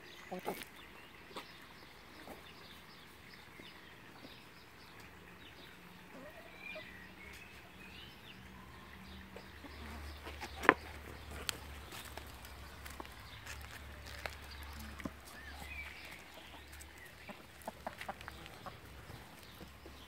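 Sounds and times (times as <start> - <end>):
chickens clucking and chirping: 0.0 - 20.0.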